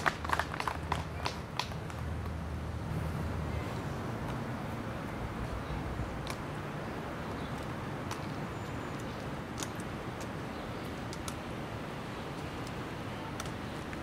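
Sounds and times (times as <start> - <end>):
low rumble of passing traffic: 0.0 - 14.0.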